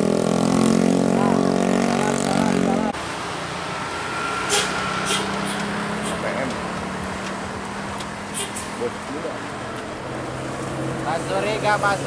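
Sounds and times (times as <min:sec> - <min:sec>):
bus passing with droning engine: 0:00.0 - 0:12.0.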